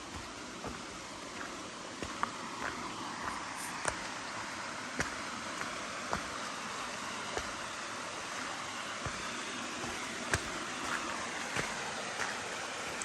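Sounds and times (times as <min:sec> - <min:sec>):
footsteps on path: 0:00.0 - 0:13.0
stream running water: 0:00.0 - 0:13.0.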